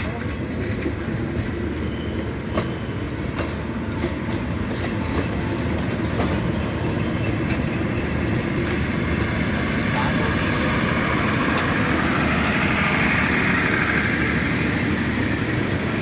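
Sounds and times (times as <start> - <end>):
train wheels rumbling on rail: 0.0 - 16.0
wheels clicking over rail joints: 0.0 - 16.0.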